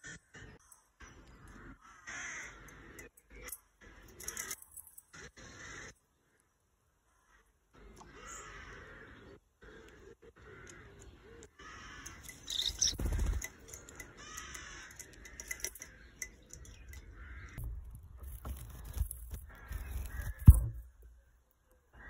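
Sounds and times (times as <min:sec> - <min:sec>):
rough bird calls: 0:00.0 - 0:06.5, 0:07.1 - 0:22.0.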